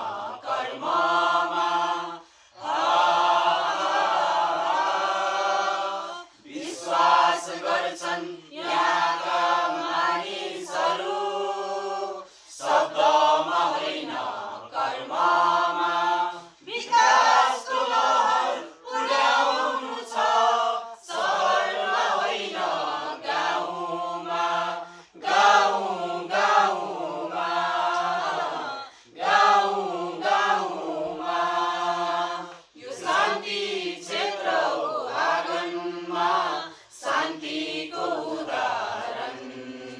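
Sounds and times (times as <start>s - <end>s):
group singing without instruments: 0.0s - 39.9s.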